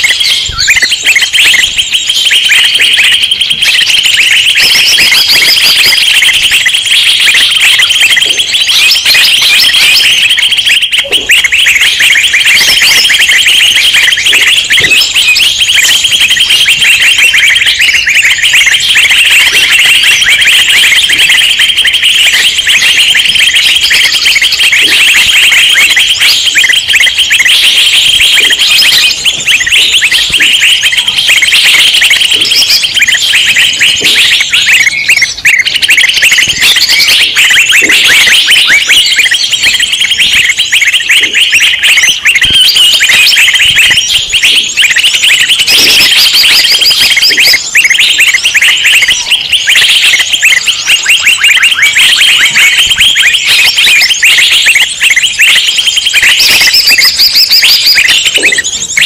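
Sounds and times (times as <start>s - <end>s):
songbirds chirping and chattering: 0.0s - 59.0s.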